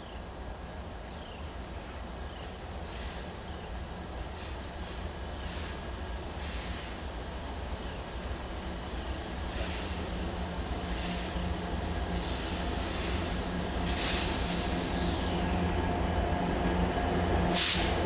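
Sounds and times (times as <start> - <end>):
low locomotive engine drone: 0.0 - 18.0.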